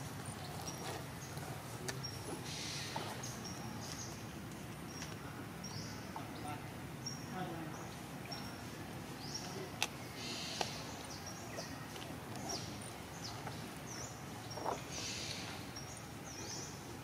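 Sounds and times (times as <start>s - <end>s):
small birds chirping: 0.0s - 17.0s
outdoor hiss: 1.2s - 11.5s, 13.0s - 17.0s.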